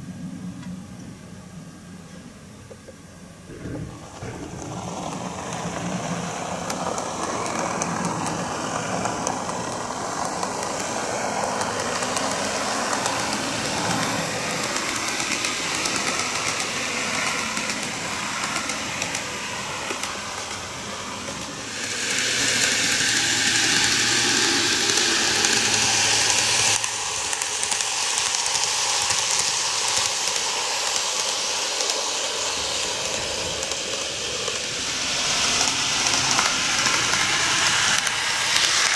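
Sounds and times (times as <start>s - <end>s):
model train whirring and rattling: 0.0s - 38.9s.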